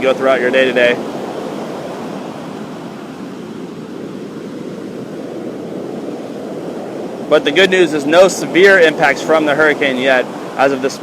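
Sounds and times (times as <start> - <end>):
heavy surf rushing: 0.0 - 11.0.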